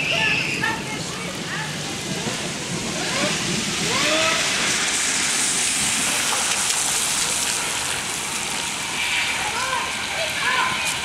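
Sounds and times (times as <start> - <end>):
tyres spinning on wet pavement: 0.0 - 11.0.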